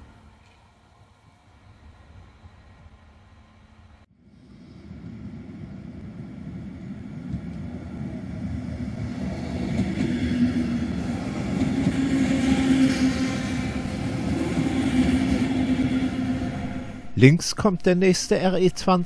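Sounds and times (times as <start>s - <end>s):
train rumble: 0.0s - 17.3s.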